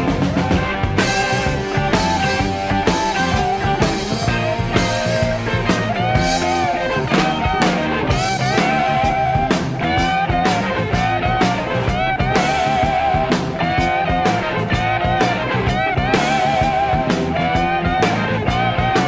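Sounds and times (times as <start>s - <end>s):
drum beat: 0.0s - 19.0s
electric guitar bending notes: 0.0s - 19.0s
rock music: 0.0s - 19.0s.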